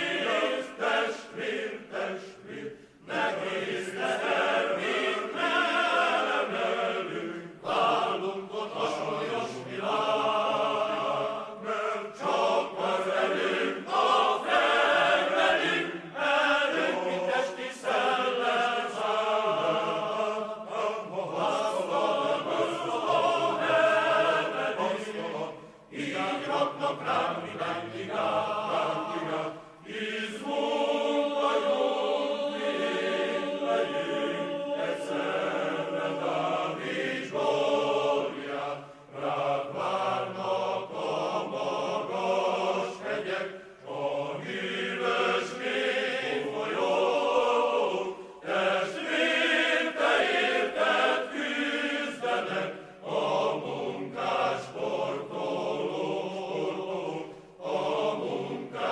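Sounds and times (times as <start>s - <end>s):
choir singing: 0.0s - 58.9s.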